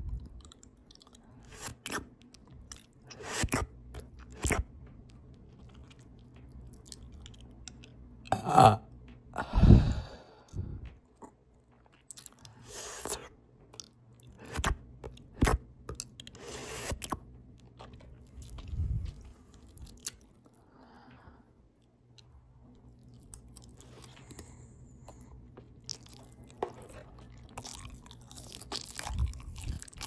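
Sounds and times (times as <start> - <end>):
open-mouth chewing: 0.0 - 9.2, 10.4 - 30.0.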